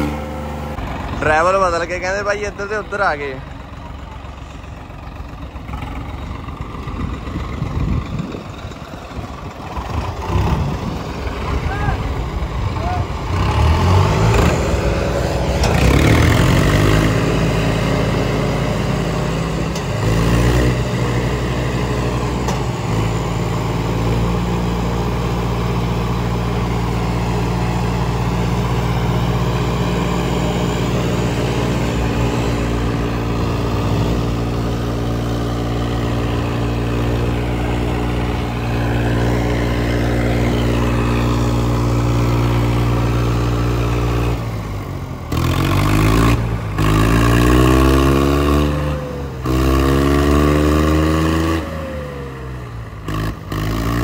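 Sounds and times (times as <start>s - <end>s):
diesel tractor engines revving: 0.0s - 54.0s.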